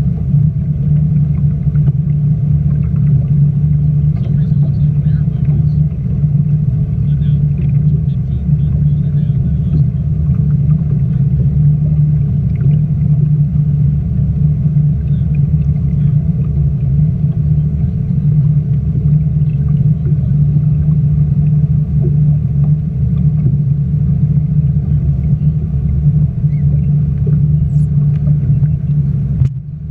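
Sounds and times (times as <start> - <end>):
speedboat engine rumbling: 0.0 - 29.9.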